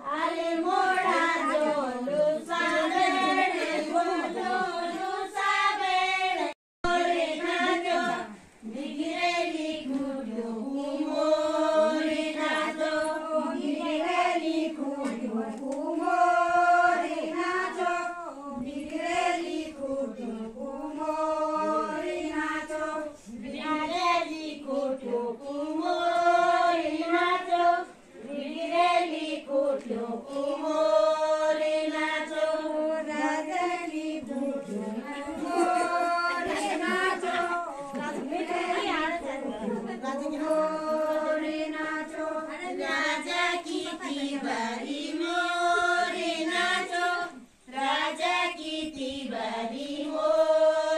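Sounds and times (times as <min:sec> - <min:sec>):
group of women singing: 0:00.0 - 0:50.9.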